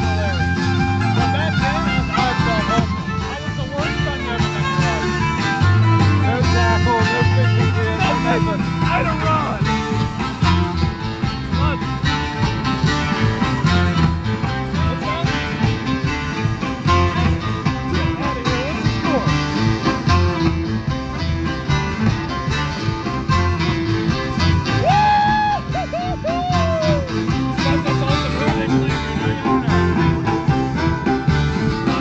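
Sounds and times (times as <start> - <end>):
live bluegrass band playing: 0.0 - 32.0.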